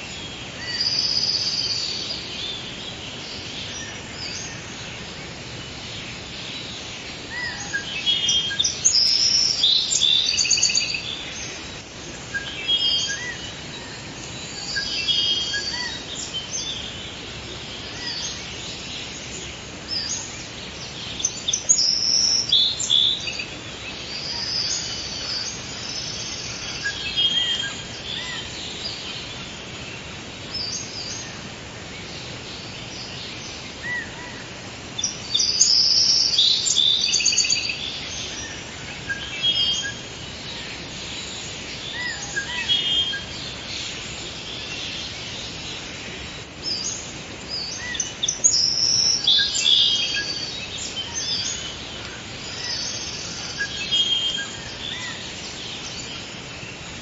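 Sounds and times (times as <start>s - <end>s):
birds singing and chirping: 0.0s - 57.0s
steady background hiss: 0.0s - 57.0s.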